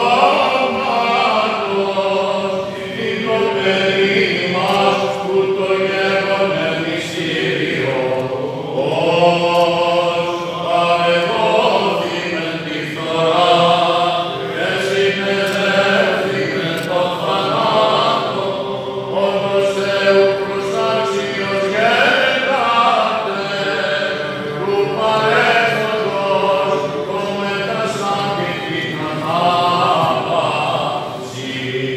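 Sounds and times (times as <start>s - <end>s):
man chanting: 0.0s - 31.9s.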